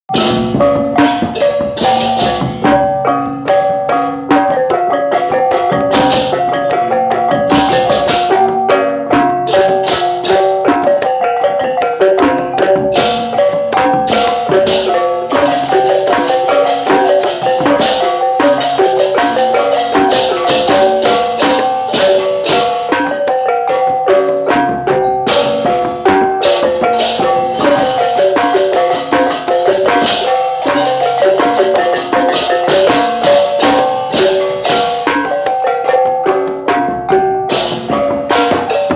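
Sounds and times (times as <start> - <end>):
metallophones ringing: 0.1 - 38.9
sharp percussion strokes: 0.1 - 38.9.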